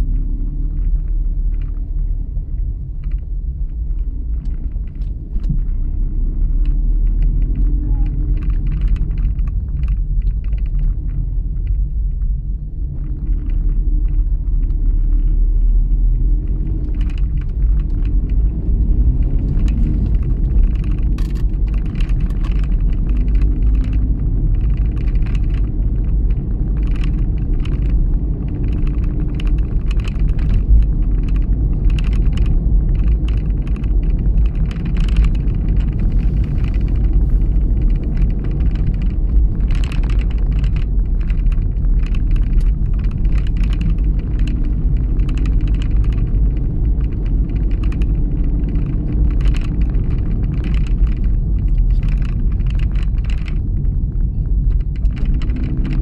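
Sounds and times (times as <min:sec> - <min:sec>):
car engine and tyres rumbling: 0:00.0 - 0:56.0
small ticks and rattles: 0:00.0 - 0:56.0.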